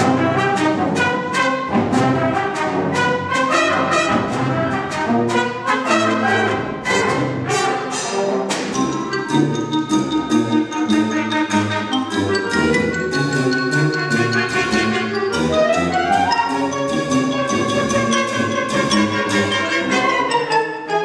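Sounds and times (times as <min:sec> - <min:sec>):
wind ensemble playing: 0:00.0 - 0:21.0.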